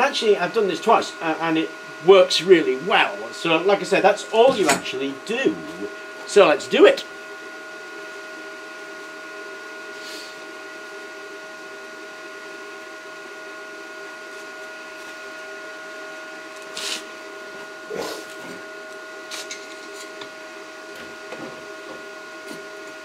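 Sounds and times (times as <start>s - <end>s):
electrical machine hum: 0.0s - 23.0s.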